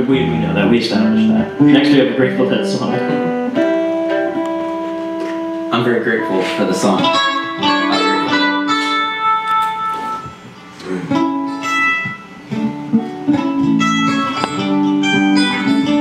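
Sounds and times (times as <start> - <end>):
electric bass: 0.0 - 16.0
electric guitar: 0.0 - 16.0
mandolin: 0.0 - 16.0.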